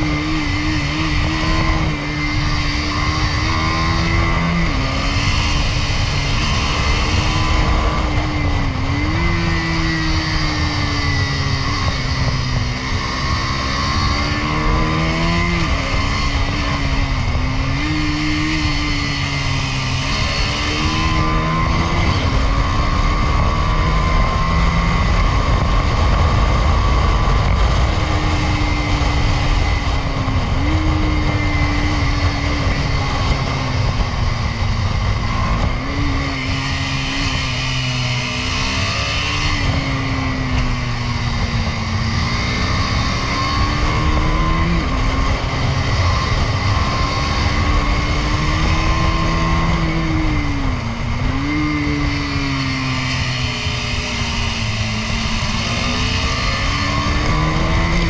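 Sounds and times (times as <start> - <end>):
motorcycle engine accelerating: 0.0 - 58.0
steady low rush: 0.0 - 58.0.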